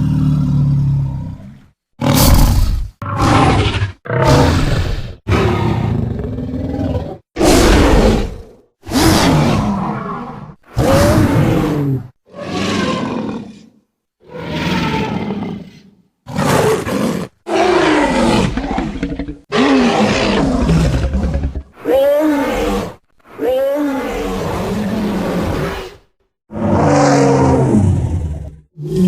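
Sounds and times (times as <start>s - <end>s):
dinosaur roars: 0.0s - 29.0s.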